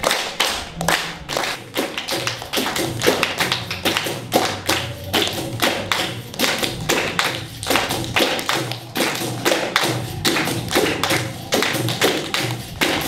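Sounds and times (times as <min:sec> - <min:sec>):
hand percussion rhythm: 0:00.0 - 0:13.0.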